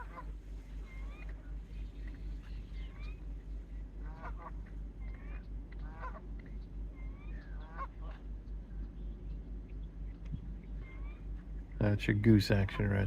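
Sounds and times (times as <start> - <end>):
geese honking: 0.0 - 9.1, 10.7 - 11.8, 12.5 - 13.0
low pulsing rumble: 0.0 - 13.0.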